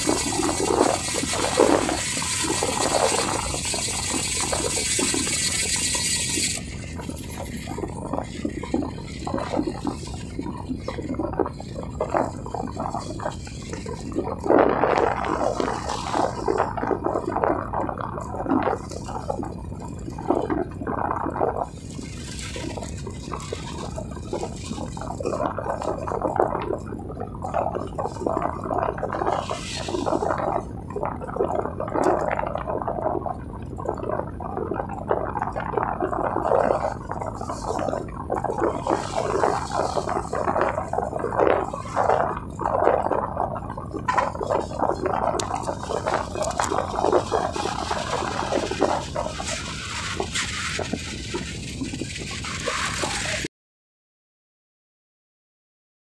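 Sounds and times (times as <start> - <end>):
wind buffeting microphone: 0.0 - 53.5.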